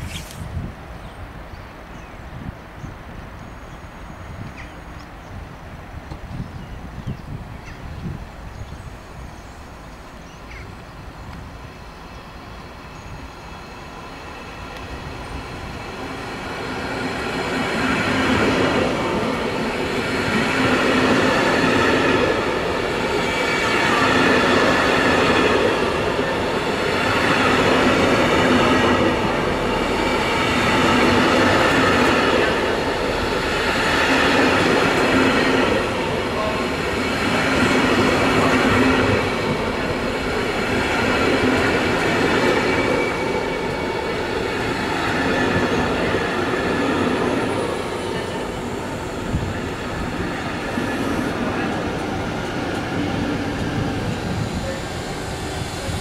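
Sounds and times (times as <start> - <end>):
train wheels on rails: 2.6 - 56.0.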